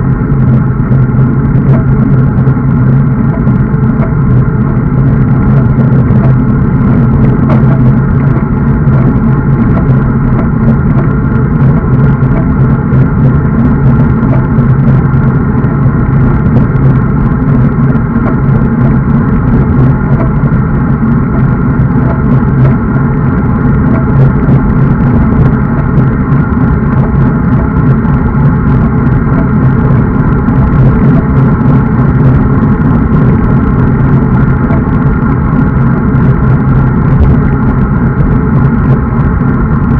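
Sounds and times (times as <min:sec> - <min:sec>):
road noise: 0:00.0 - 0:39.9
wind rumble on microphone: 0:00.0 - 0:39.9.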